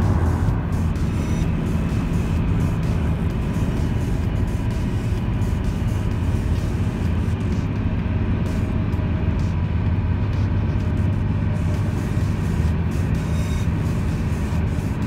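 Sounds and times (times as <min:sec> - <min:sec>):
tyres and road noise: 0:00.0 - 0:15.0.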